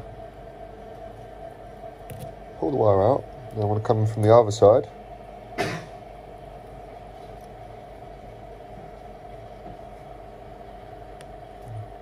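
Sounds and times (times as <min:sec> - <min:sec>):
workbench equipment humming: 0:00.0 - 0:12.0.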